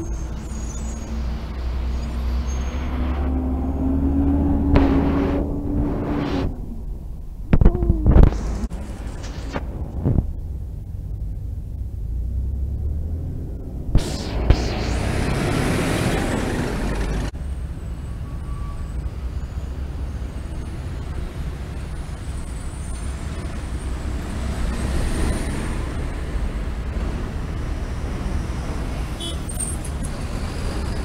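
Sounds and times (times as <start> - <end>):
bus passing on wet street: 0.0 - 7.1, 11.3 - 31.0
traffic rumble: 0.0 - 31.0.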